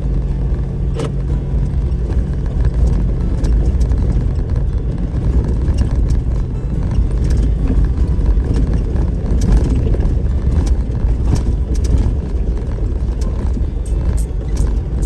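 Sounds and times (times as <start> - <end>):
vehicle engine and tyres rumbling: 0.0 - 15.0
stones knocking and body rattling: 0.9 - 15.0.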